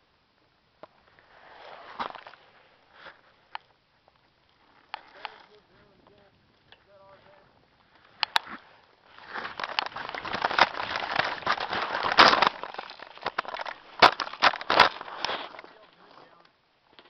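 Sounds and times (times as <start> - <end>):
crackling through dry ground cover: 0.0 - 17.0.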